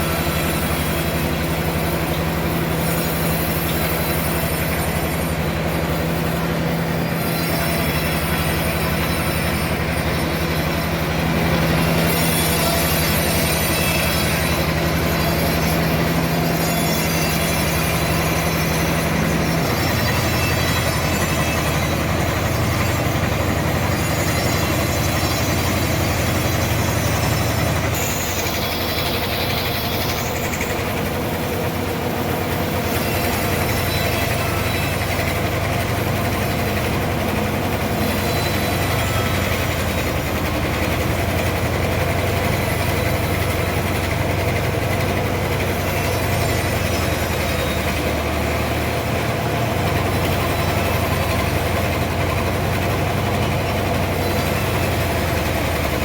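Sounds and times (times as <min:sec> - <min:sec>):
high squealing whine: 0:00.0 - 0:56.0
sawmill saw cutting log: 0:00.0 - 0:56.0.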